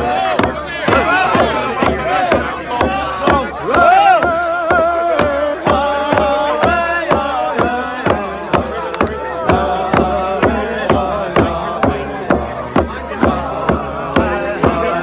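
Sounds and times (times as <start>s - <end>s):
hand drum beaten steadily: 0.0s - 15.0s
voices singing chant-like song: 0.0s - 15.0s.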